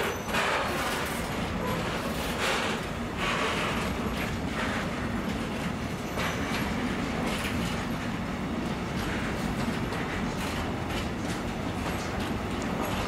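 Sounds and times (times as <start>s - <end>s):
freight train wheels rumbling on rail: 0.0s - 13.0s
wheels clacking over rail joints: 0.0s - 13.0s.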